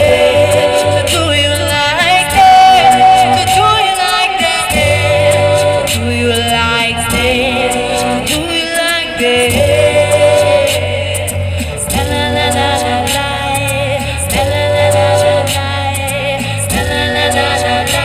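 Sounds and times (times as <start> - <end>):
low bass: 0.0 - 3.8, 4.7 - 18.0
person singing: 0.0 - 18.0
wavering melody line: 0.0 - 18.0.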